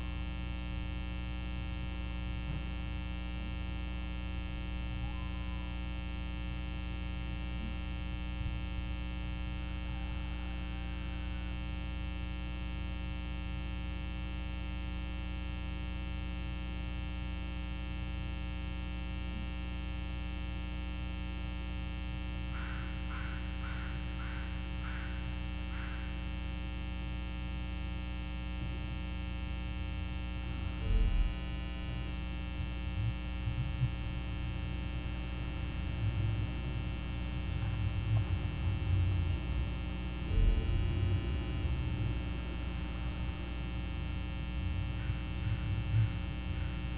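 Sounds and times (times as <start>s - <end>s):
steady electrical hum: 0.0s - 46.9s.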